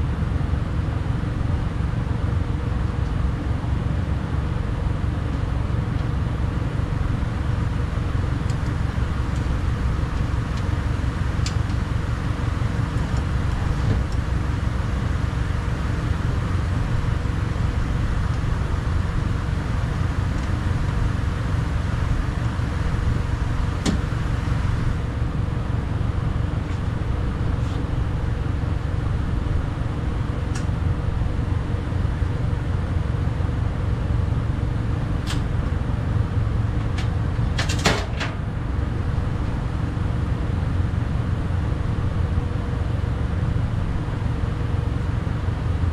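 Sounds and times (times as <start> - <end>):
faint hum: 0.0 - 45.9
low rumble: 0.0 - 45.9.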